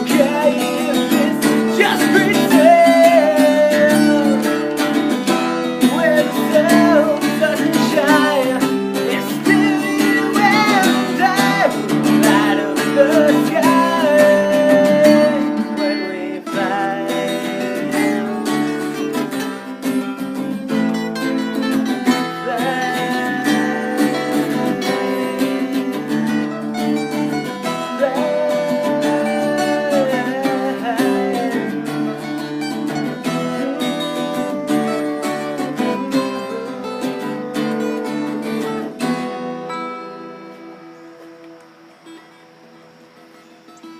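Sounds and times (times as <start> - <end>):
acoustic guitar strumming chords: 0.0 - 43.9
guitar melody with pitch bends: 0.0 - 43.9.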